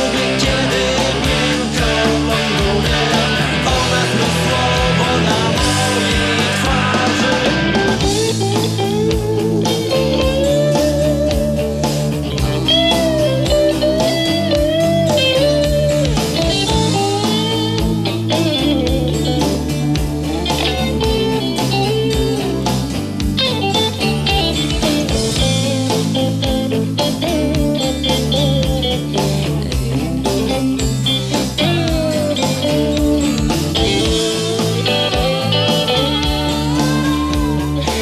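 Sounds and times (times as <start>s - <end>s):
lead guitar melody with bent notes: 0.0s - 38.0s
rock band playing: 0.0s - 38.0s.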